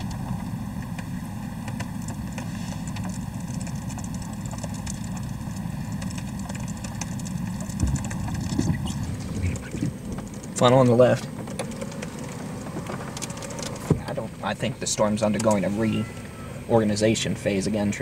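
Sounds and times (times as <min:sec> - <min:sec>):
rain and hail tapping on car: 0:00.0 - 0:15.6
car engine idling: 0:00.0 - 0:18.0.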